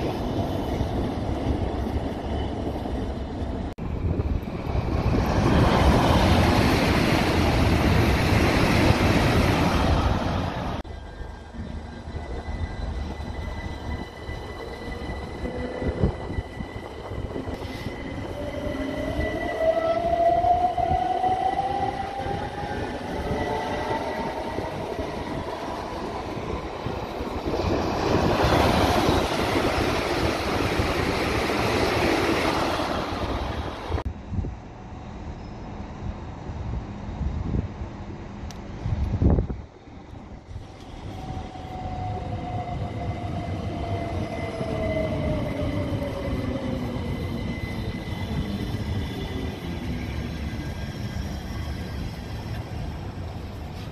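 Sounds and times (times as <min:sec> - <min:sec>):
faint train whine: 0:00.0 - 0:53.9
high-speed train passing: 0:00.0 - 0:53.9.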